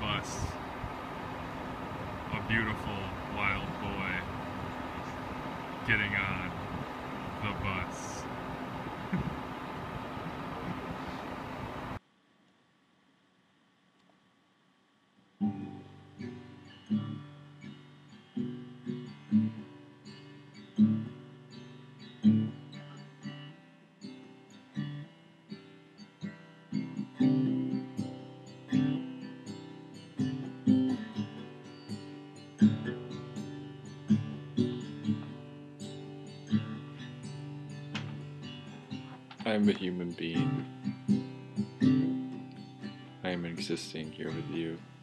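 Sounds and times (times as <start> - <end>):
acoustic guitar music: 0.0 - 12.0, 15.4 - 45.0.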